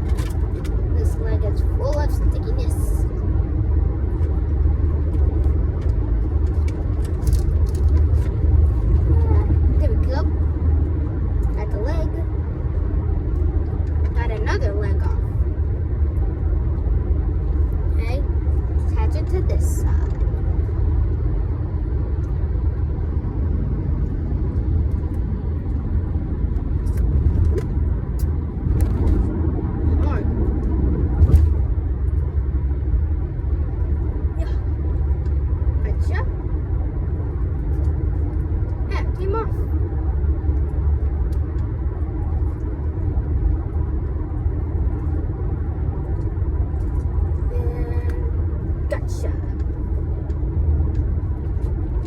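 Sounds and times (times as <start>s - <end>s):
low rumble: 0.0s - 52.0s.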